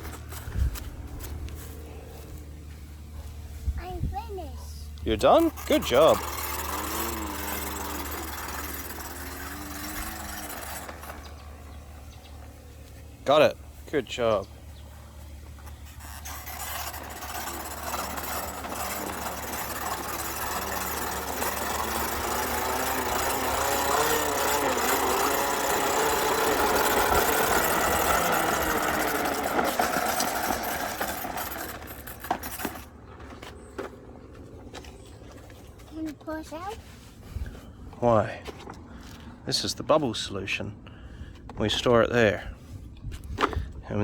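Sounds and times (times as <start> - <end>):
toy lawn mower motor whirring: 0.0 - 37.6.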